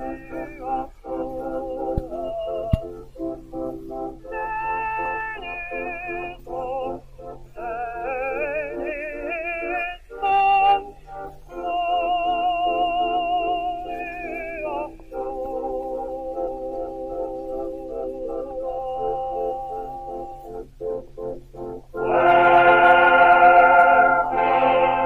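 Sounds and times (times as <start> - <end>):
background music with wavering melody: 0.0 - 25.0.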